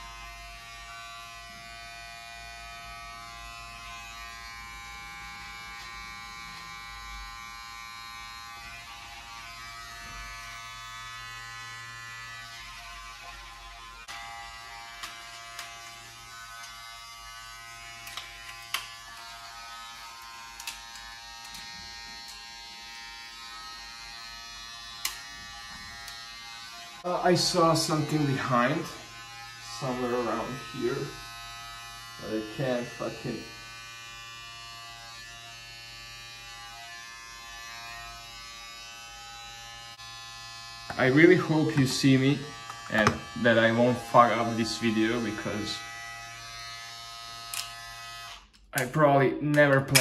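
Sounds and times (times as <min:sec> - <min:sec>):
electric hair clippers buzzing: 0:00.0 - 0:48.9.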